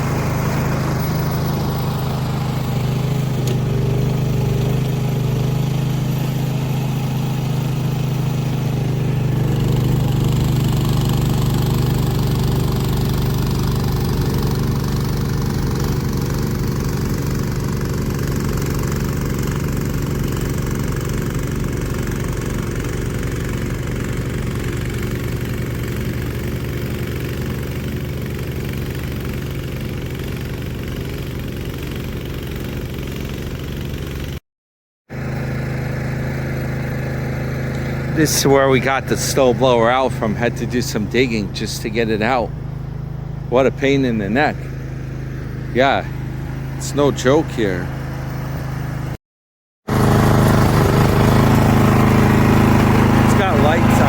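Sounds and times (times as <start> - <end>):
snowblower engine running: 0.0 - 34.4, 35.1 - 49.2, 49.9 - 54.0.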